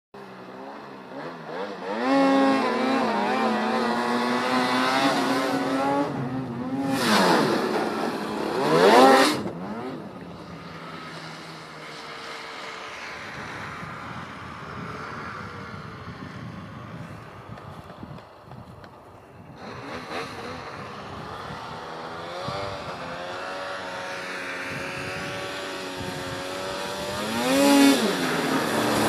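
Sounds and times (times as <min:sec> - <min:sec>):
snowmobile engine revving: 0:00.4 - 0:18.5, 0:19.6 - 0:29.0.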